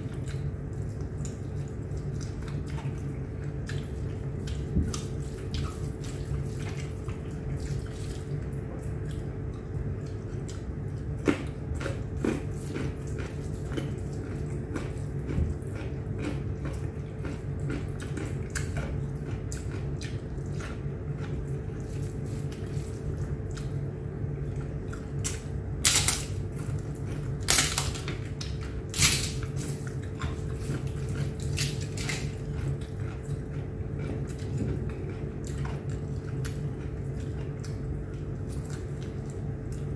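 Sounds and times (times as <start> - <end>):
moist chewing and mouth smacks: 0.0 - 25.5, 26.5 - 39.9.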